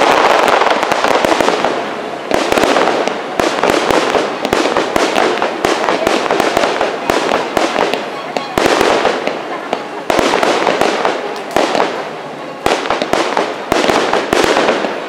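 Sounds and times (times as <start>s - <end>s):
fireworks cracks and pops: 0.0s - 15.0s.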